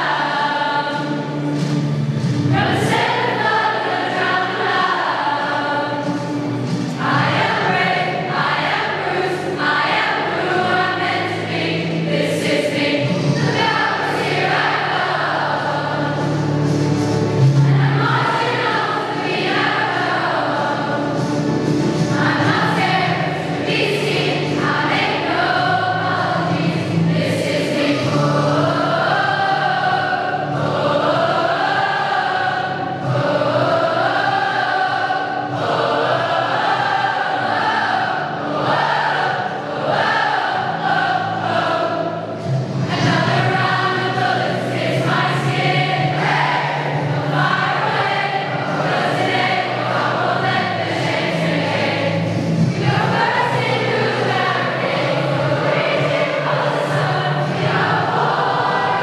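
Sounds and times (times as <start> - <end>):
large choir singing: 0.0 - 59.0.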